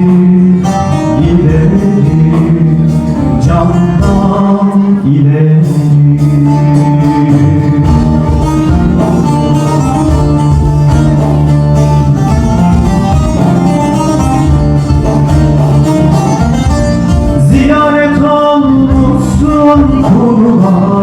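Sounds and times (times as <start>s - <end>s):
plucked string folk melody: 0.0s - 21.0s.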